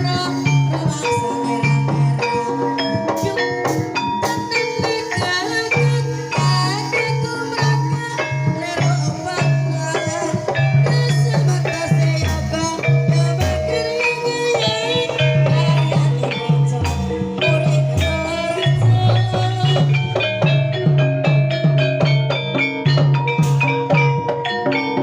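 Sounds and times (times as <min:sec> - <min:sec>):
gamelan drum beat: 0:00.0 - 0:25.0
tuned percussion melody: 0:00.0 - 0:25.0.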